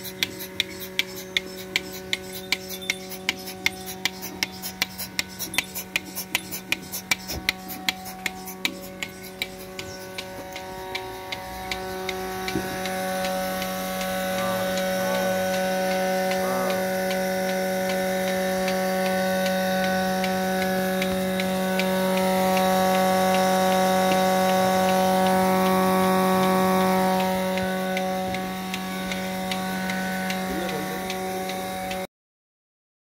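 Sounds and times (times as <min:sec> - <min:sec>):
regular ticking: 0:00.0 - 0:32.0
vacuum pump humming: 0:00.0 - 0:32.1.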